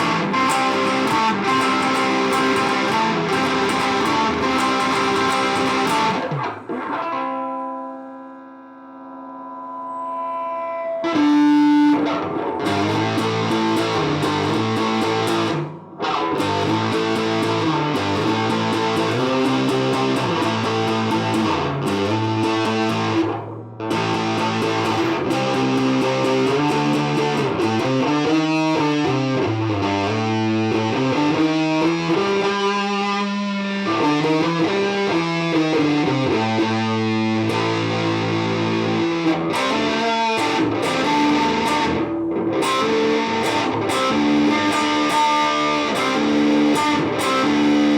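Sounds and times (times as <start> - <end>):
distorted electric guitar riffs: 0.0 - 47.9.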